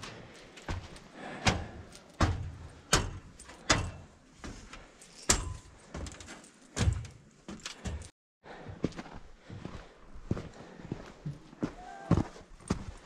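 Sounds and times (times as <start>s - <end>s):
footsteps climbing stairs: 0.0s - 12.9s.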